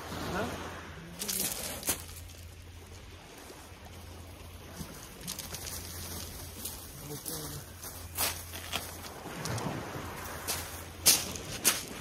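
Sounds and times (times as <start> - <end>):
waves washing over shingle: 0.0 - 12.0.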